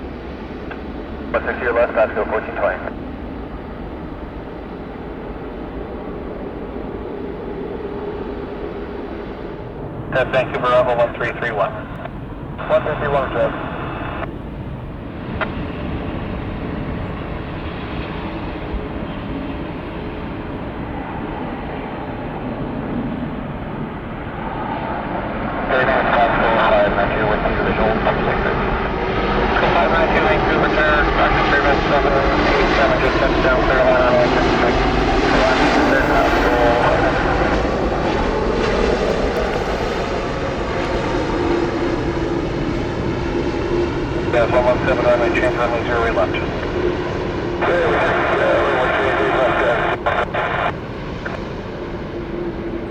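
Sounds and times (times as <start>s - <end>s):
jet engine rumble: 0.0s - 52.9s.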